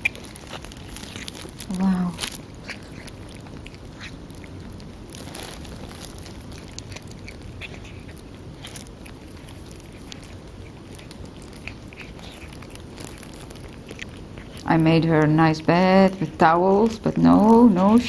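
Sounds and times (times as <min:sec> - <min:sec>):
cat chewing and licking: 0:00.0 - 0:18.0.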